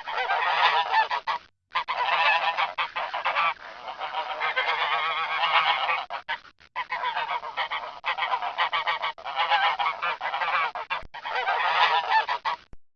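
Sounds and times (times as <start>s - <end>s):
geese honking: 0.0s - 12.7s.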